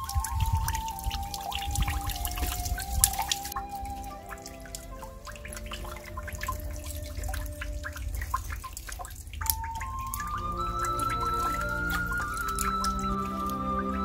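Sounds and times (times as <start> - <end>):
soft background music: 0.0 - 8.6, 9.5 - 14.0
water dripping and splashing: 0.0 - 14.0.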